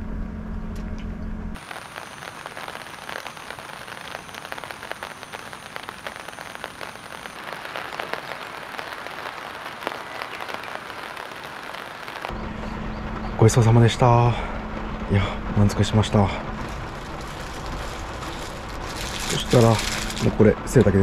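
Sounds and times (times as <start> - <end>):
steady rain falling: 1.6 - 12.4, 13.0 - 21.0.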